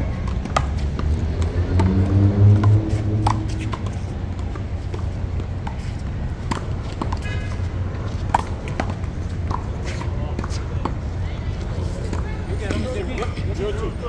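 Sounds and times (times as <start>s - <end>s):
low city rumble: 0.0s - 14.0s.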